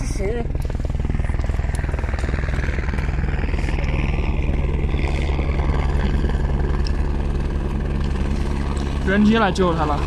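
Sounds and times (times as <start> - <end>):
helicopter engine hum: 0.0 - 10.0
helicopter rotor beat: 0.0 - 10.0.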